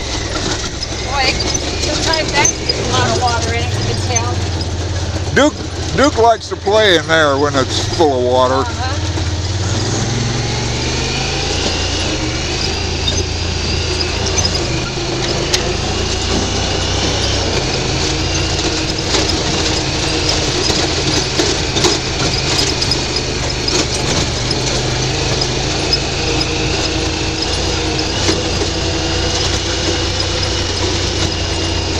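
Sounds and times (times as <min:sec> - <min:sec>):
knocks and rattles: 0:00.0 - 0:31.9
utility vehicle engine running: 0:00.0 - 0:31.9.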